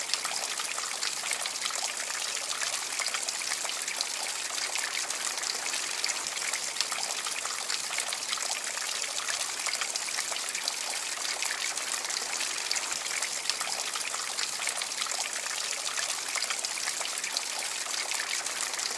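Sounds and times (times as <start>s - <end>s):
water trickling and splashing: 0.0s - 18.9s.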